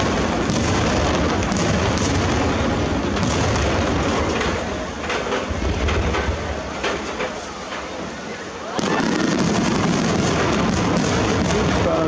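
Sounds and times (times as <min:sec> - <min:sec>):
firework shells bursting: 0:00.0 - 0:07.9, 0:08.8 - 0:12.0
sharp cracks of fireworks: 0:00.0 - 0:12.0.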